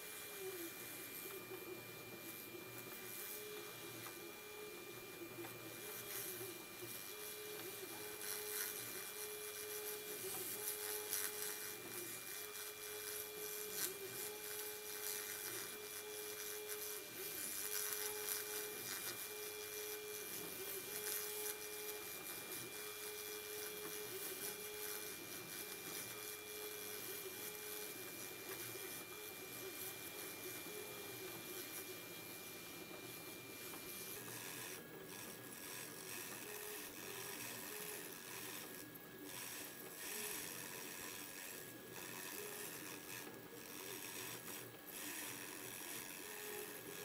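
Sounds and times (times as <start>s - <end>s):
router spindle whine: 0.0s - 47.0s.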